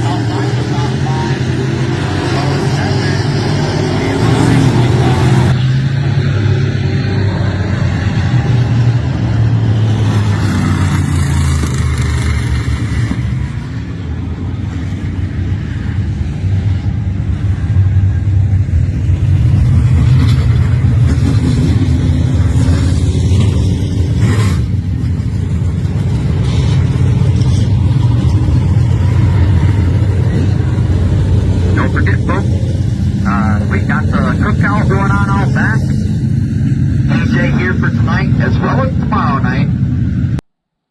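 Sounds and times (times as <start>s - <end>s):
race car engine revving: 0.0s - 14.1s, 18.5s - 40.4s.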